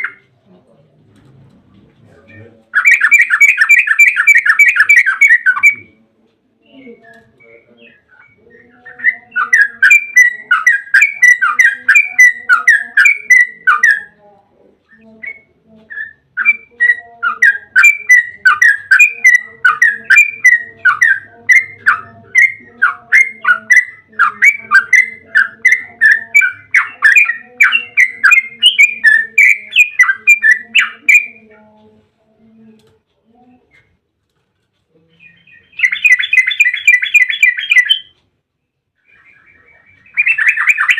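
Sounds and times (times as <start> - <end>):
bulbul chattering song: 0.0 - 0.3, 2.3 - 14.3, 14.9 - 33.9, 34.9 - 38.3, 39.0 - 40.9.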